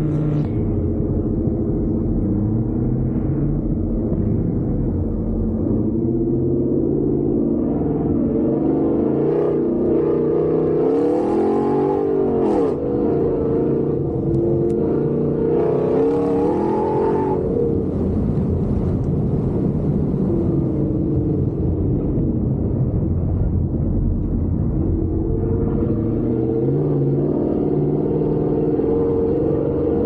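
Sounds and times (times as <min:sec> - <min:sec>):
truck engine accelerating: 0:00.0 - 0:30.0.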